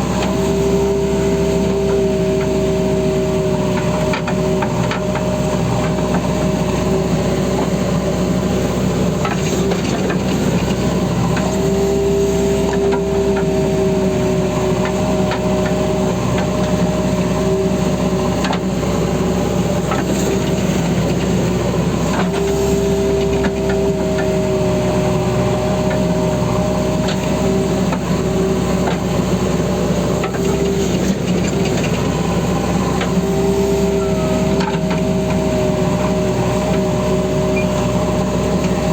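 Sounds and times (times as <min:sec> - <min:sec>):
diesel engine whining: 0:00.0 - 0:38.9.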